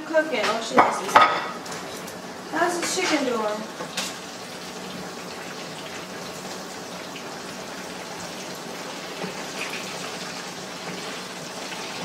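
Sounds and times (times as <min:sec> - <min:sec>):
chicken sizzling in a skillet: 0:00.4 - 0:12.0.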